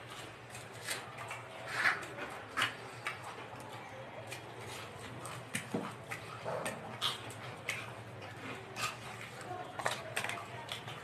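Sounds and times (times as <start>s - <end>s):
crisp chewing crunches: 0.0s - 11.0s.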